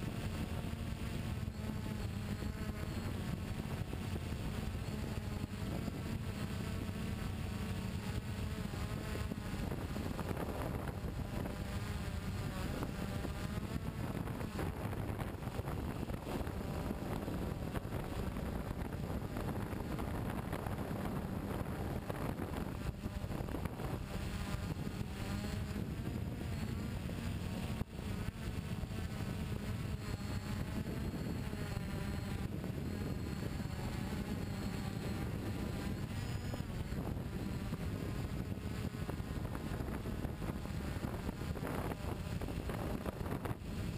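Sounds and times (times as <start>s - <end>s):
toy car motor revving: 0.0s - 43.9s
wind noise on microphone: 0.0s - 43.9s.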